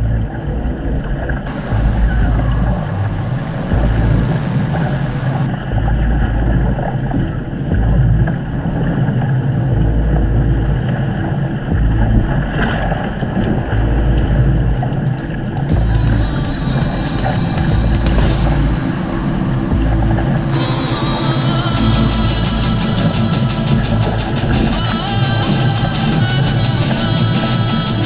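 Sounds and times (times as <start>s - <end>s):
water rushing along hull: 0.0s - 28.0s.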